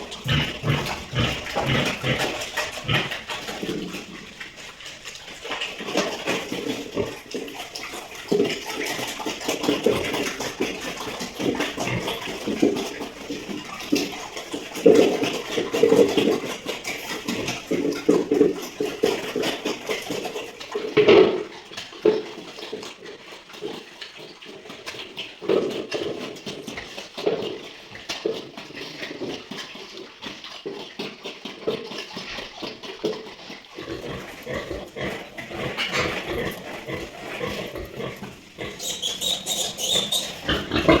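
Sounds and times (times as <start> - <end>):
pigs grunting: 0.0 - 41.0.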